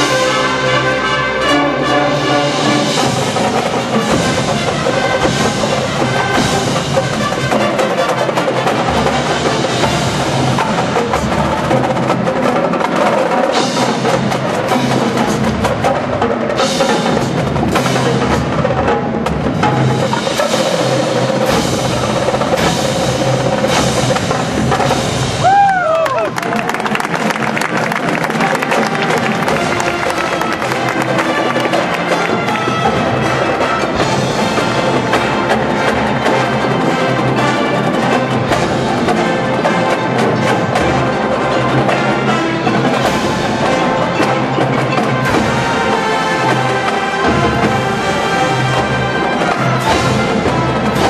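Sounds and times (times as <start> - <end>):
drumline: 0.0 - 51.0
marching band playing: 0.0 - 51.0.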